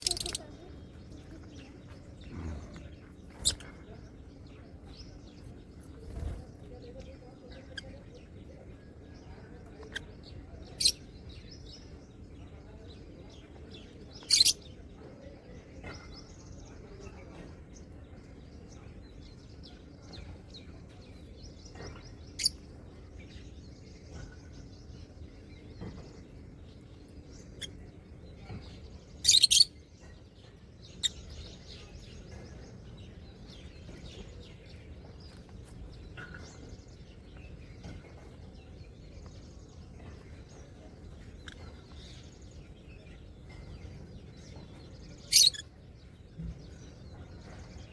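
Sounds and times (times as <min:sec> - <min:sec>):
parrots chirping and chattering: 0:00.0 - 0:47.9.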